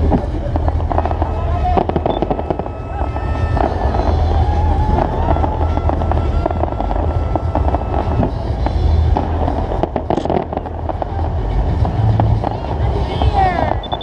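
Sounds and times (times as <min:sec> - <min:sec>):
fireworks bangs and crackling: 0:00.0 - 0:14.0
low rumble: 0:00.0 - 0:14.0.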